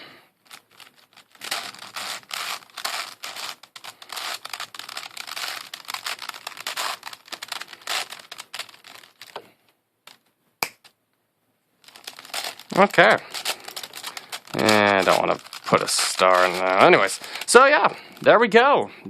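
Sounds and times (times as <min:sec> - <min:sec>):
puzzle cube clicking: 0:00.4 - 0:09.5, 0:10.1 - 0:11.0, 0:11.8 - 0:18.3.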